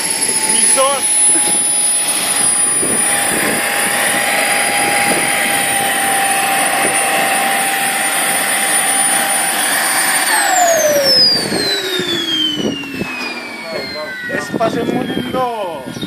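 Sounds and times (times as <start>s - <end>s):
jet turbine whine: 0.0s - 16.0s.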